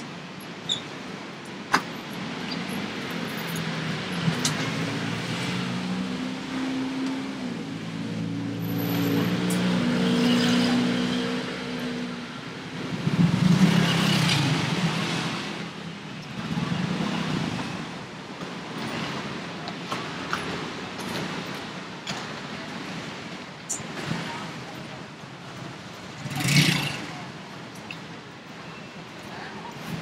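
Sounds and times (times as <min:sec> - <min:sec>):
road traffic passing: 0:00.0 - 0:30.0.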